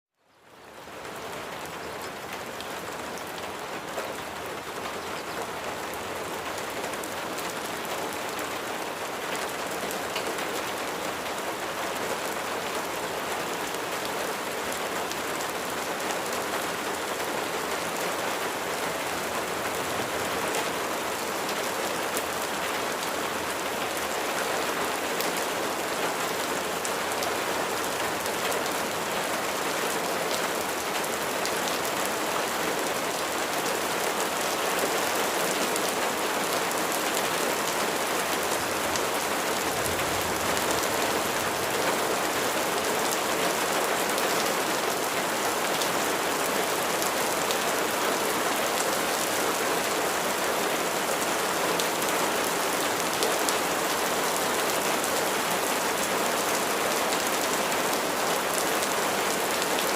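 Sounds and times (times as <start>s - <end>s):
steady rain hiss: 0.2s - 59.9s.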